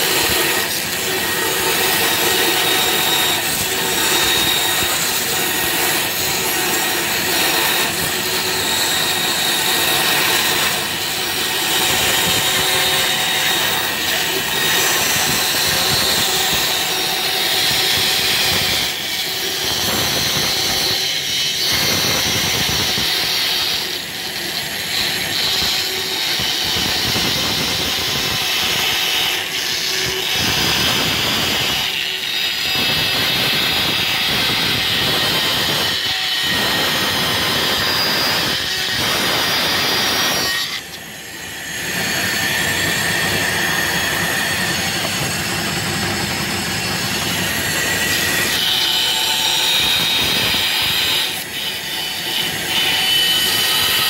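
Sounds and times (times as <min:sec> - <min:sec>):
bandsaw cutting wood: 0:00.0 - 0:54.0.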